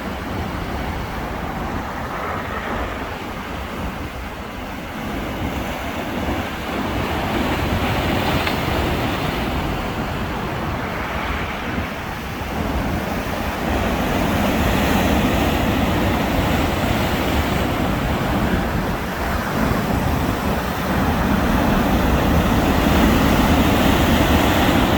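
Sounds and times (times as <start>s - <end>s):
sea waves breaking on beach: 0.0s - 24.9s
wind rumble on microphone: 0.0s - 24.9s.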